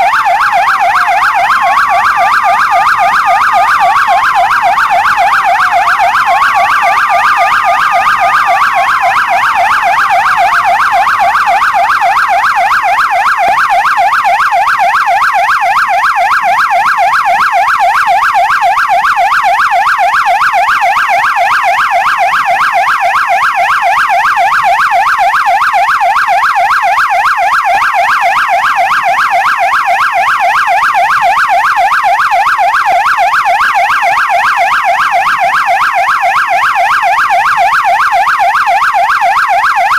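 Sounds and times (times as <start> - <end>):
police siren warbling: 0.0 - 39.9
slower siren wail: 0.0 - 39.9.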